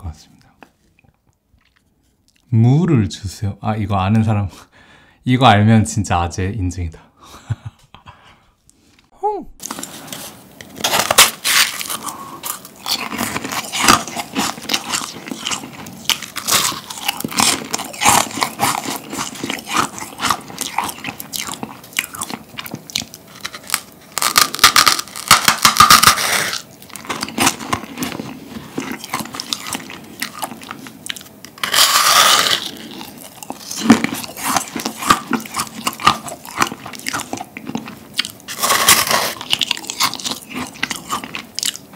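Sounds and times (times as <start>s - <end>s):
crunching and chewing meringue: 0.9s - 2.5s, 9.6s - 41.9s.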